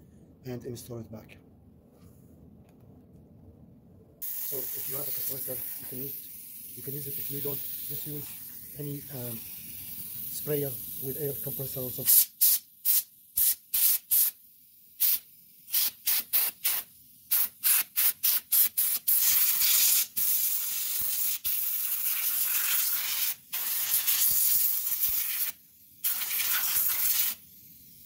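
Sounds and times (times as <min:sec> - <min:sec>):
compressed air hissing from nozzle: 0:04.2 - 0:14.4, 0:15.0 - 0:28.0.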